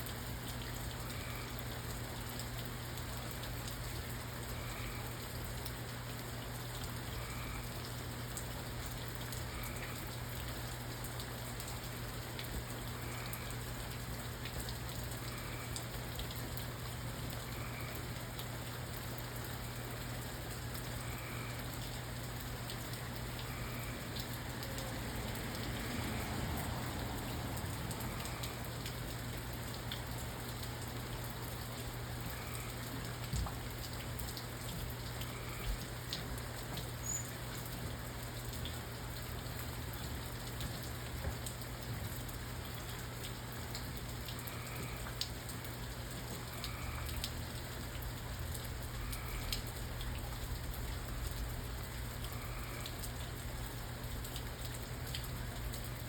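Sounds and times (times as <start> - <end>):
rain falling on a surface: 0.0 - 56.0.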